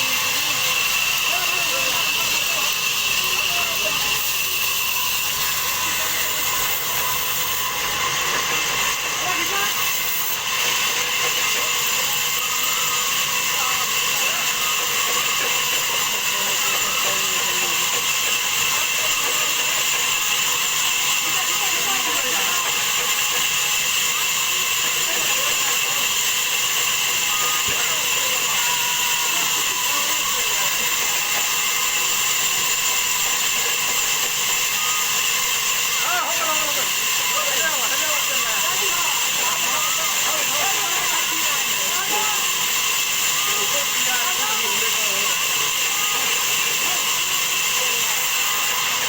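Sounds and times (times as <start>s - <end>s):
faint voices: 0.0s - 49.0s
hiss: 0.0s - 49.0s
sawmill saw whining: 0.0s - 49.0s.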